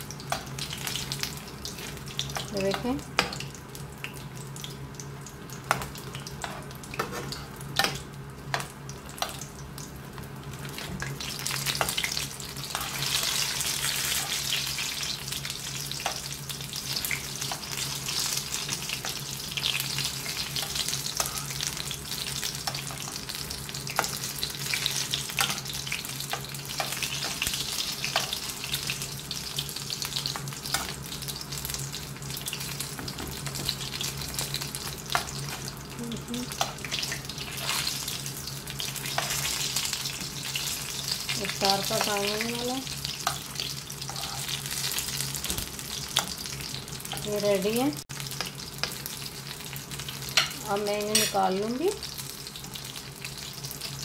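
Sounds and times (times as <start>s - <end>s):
spring rolls sizzling in hot oil: 0.0s - 54.0s.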